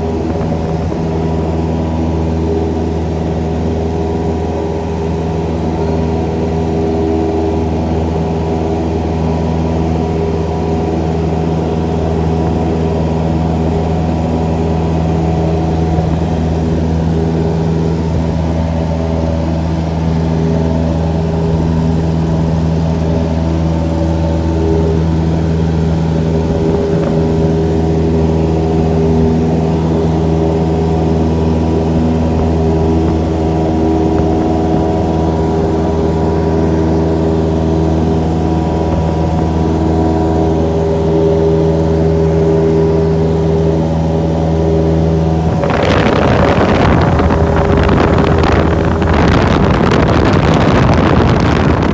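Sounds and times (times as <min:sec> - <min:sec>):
aircraft engine and propeller droning: 0:00.0 - 0:51.9.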